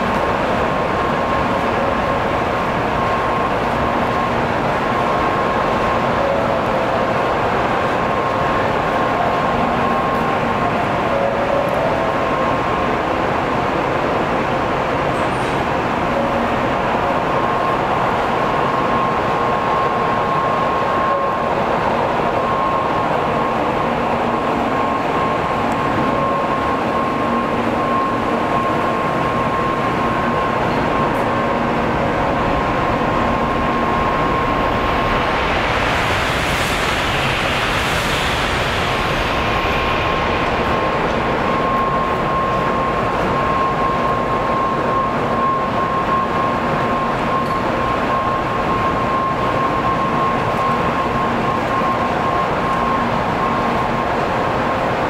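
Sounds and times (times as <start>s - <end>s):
constant high tone: 0.0s - 55.0s
train rumble and rush: 0.0s - 55.0s.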